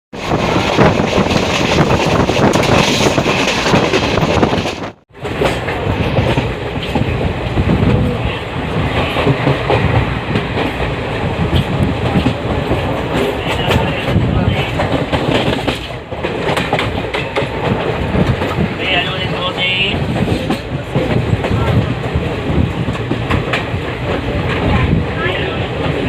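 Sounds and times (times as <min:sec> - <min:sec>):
rushing noise: 0:00.1 - 0:26.0
train wheels clattering over rail joints: 0:00.2 - 0:25.1.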